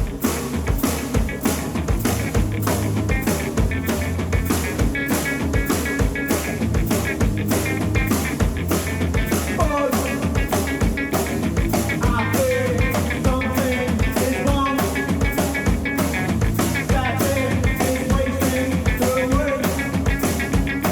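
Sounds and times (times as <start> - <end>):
distorted electric guitar: 0.0 - 20.9
drum kit with crashing cymbals: 0.0 - 20.9.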